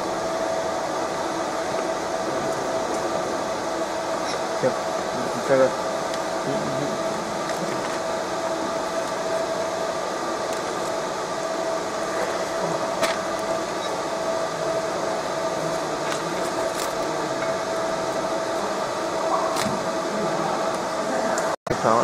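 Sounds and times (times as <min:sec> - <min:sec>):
laser engraver buzzing hiss: 0:00.0 - 0:21.4.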